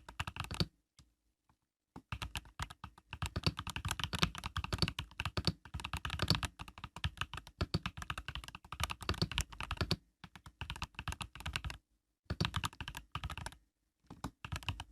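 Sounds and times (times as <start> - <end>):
mechanical keyboard typing: 0.0 - 0.7, 2.0 - 14.9.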